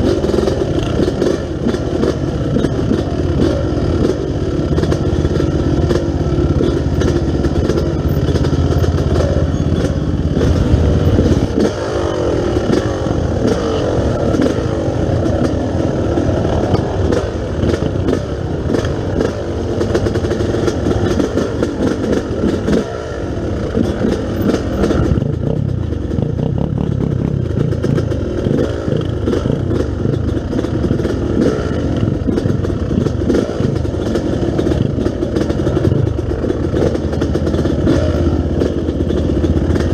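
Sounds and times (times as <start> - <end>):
bike knocks and rattles: 0.0 - 39.9
dirt bike engine revving: 0.0 - 39.9.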